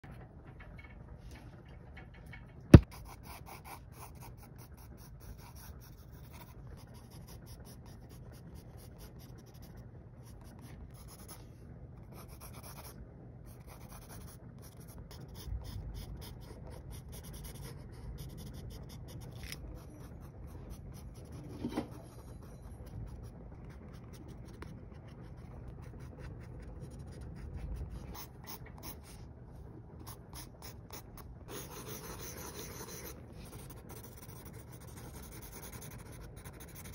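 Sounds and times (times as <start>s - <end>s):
pencil scratching on paper: 2.8s - 11.4s, 12.2s - 12.9s, 13.6s - 29.2s, 30.1s - 36.9s.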